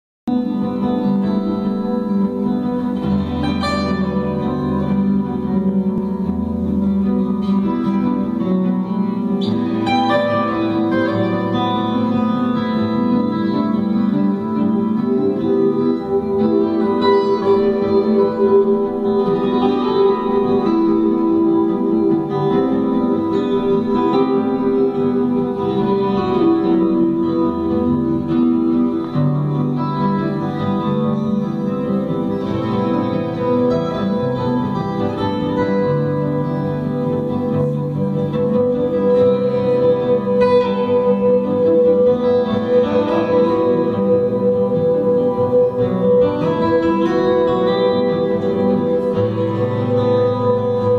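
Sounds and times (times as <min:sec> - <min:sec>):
recorded music over loudspeakers: 0:00.3 - 0:50.9.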